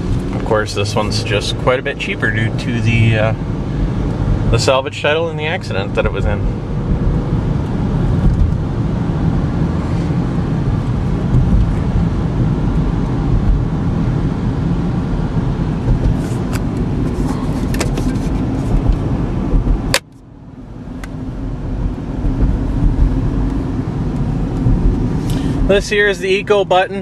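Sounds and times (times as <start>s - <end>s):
road and tyre rumble: 0.0s - 27.0s.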